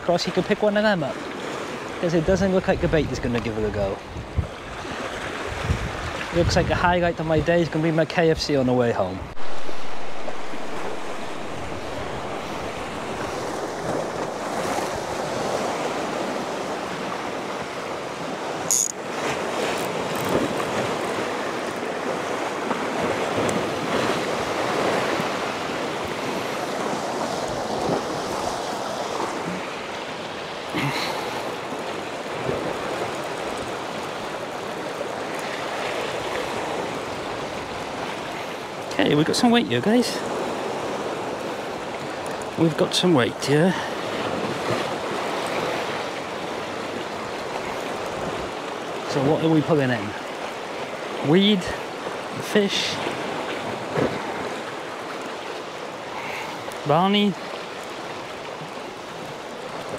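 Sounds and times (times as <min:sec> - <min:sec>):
waves washing over rocks: 0:00.0 - 0:59.9.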